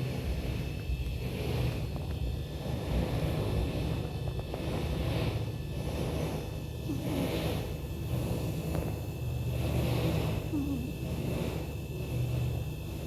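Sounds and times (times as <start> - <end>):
cat snoring: 0.0 - 13.0.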